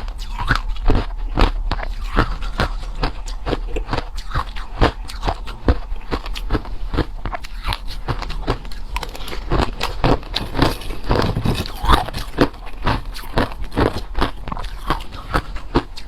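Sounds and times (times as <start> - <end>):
person crunching ice: 0.0 - 16.0.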